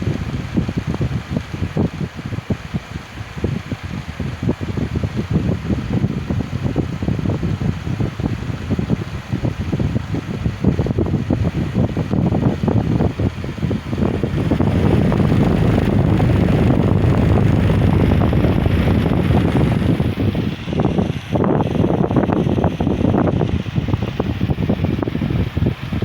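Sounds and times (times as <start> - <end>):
fan wind buffeting microphone: 0.0 - 26.0.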